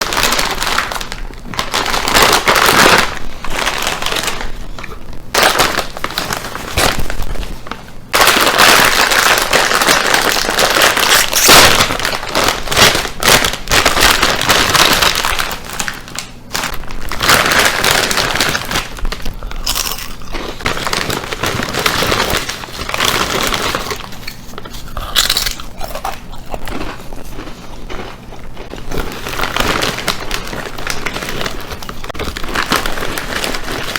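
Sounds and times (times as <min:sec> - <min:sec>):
bag of chips crinkling: 0:00.0 - 0:33.9.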